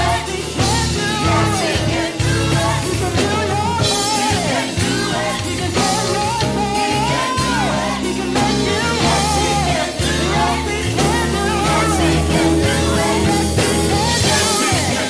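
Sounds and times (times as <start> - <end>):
band with steady beat: 0.0 - 15.0
person singing: 0.0 - 15.0.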